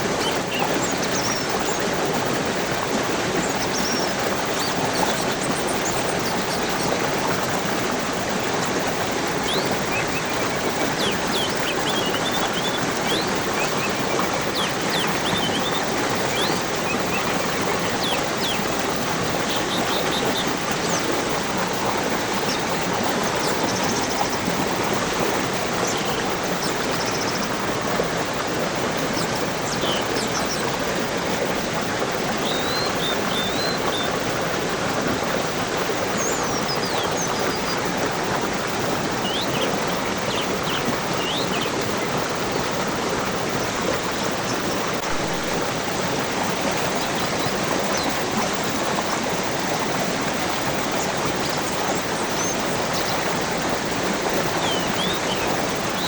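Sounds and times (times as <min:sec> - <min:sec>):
small birds chirping: 0:00.0 - 0:27.6, 0:28.4 - 0:34.3, 0:36.1 - 0:38.0, 0:38.6 - 0:42.9, 0:43.6 - 0:56.0
flowing water rushing: 0:00.0 - 0:56.0.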